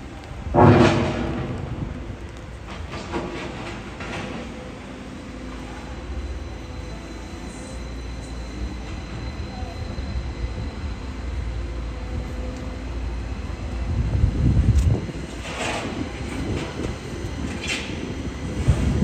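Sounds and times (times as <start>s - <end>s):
rail vehicle rumbling on track: 0.0s - 19.0s.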